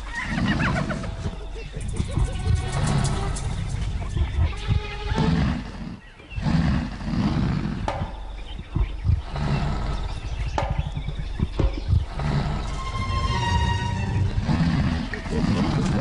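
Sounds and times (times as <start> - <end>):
leopard snarling and growling: 0.0 - 16.0.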